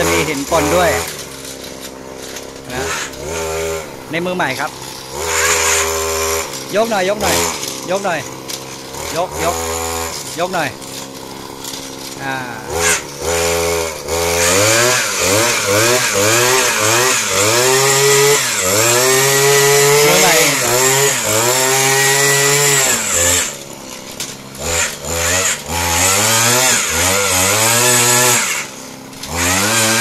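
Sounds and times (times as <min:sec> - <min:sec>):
earth auger engine drilling: 0:00.0 - 0:30.0.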